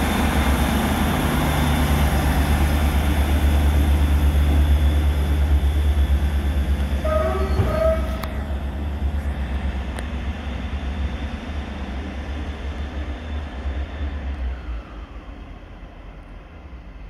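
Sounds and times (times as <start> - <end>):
diesel train engine rumble: 0.0 - 17.0.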